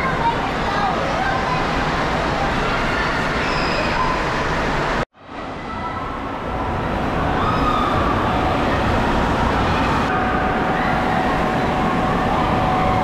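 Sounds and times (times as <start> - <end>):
hubbub of distant voices: 0.0 - 13.0.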